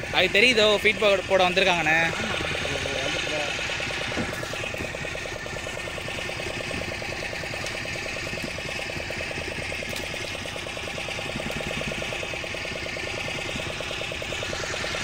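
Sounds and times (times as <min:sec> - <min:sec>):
small boat engine idling: 0:00.0 - 0:15.0.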